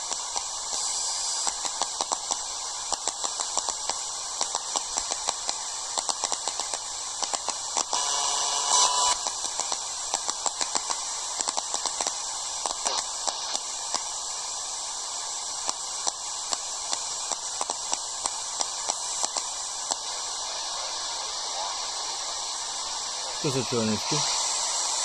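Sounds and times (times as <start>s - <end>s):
radio static hiss and crackles: 0.0s - 25.0s.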